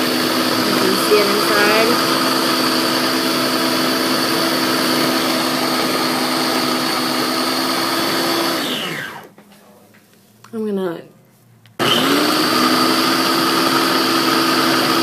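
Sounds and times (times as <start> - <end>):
blender motor running: 0.0 - 9.3, 11.8 - 15.0.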